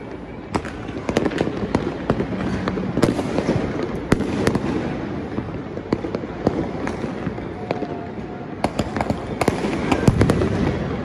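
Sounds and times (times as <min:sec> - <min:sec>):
continuous crackling: 0:00.0 - 0:11.0
fireworks bangs and cracks: 0:00.0 - 0:11.0.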